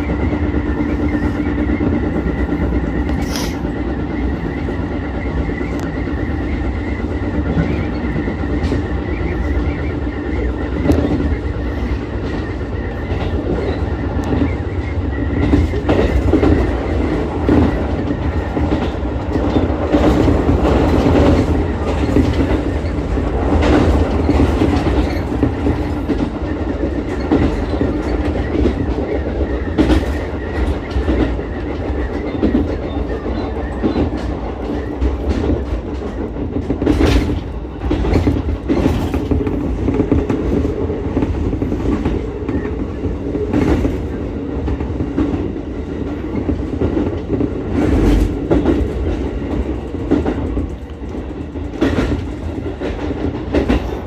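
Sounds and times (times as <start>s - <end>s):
train rolling rumble: 0.0s - 54.0s
wheels clacking on rail joints: 0.0s - 54.0s.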